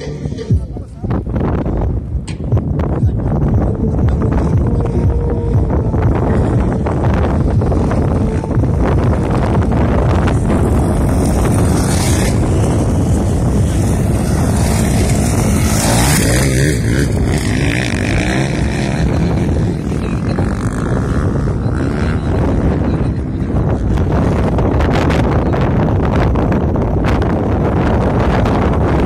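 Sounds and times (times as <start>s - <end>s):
motorcycle engines racing: 0.0s - 29.0s
wind buffeting microphone: 0.0s - 29.0s.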